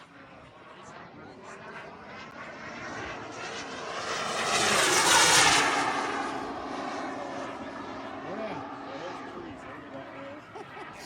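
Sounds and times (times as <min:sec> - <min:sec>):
model jet flyby whine: 0:00.0 - 0:11.0.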